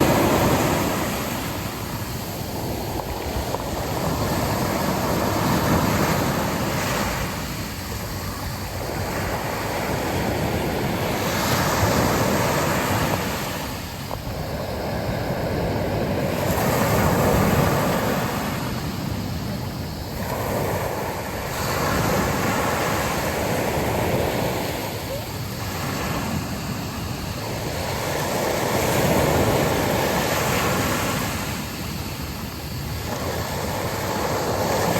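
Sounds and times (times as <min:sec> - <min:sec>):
sea waves breaking on beach: 0:00.0 - 0:34.9
wind on microphone: 0:00.0 - 0:34.9.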